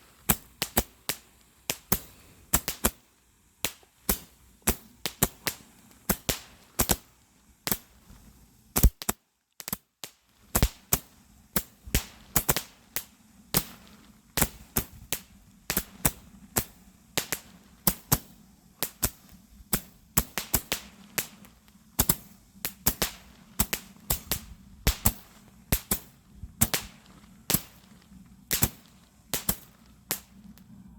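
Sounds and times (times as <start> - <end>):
fireworks cracking: 0.0 - 30.9.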